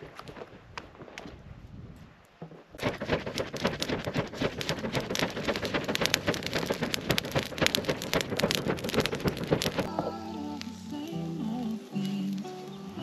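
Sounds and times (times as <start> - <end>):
charcoal crackling and popping: 2.4 - 13.0.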